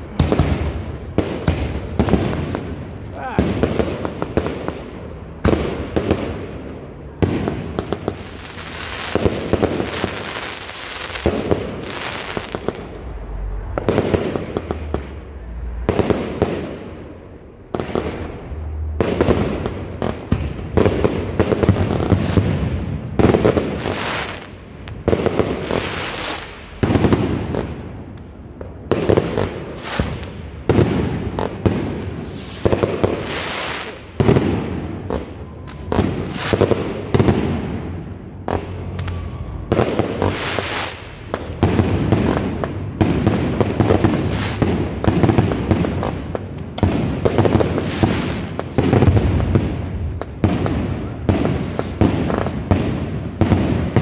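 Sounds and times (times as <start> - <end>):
fireworks launching and bursting: 0.0 - 54.0.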